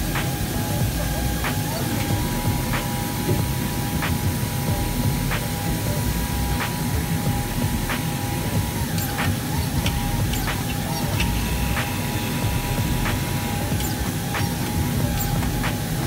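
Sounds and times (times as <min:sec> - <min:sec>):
fabric cutter machine running: 0:00.0 - 0:16.0.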